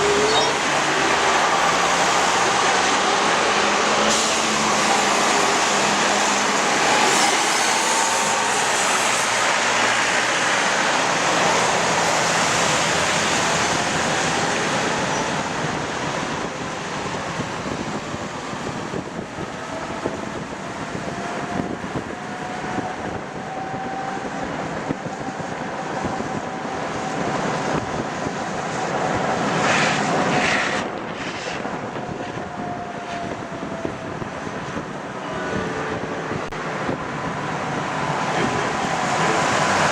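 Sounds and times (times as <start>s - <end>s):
tram wheels rumbling on rails: 0.0s - 39.9s.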